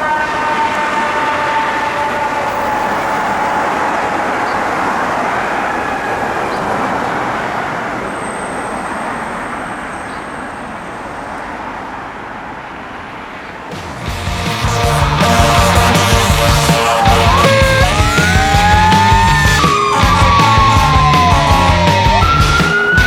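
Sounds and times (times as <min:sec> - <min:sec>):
passing vehicles rush: 0:00.0 - 0:23.0.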